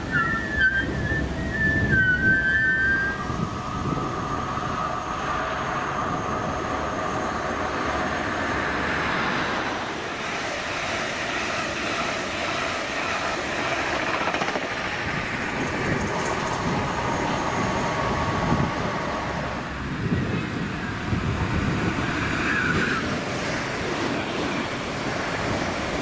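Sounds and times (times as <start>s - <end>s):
traction equipment whine: 0.0s - 26.0s
train wheels rumbling on rail: 0.0s - 26.0s.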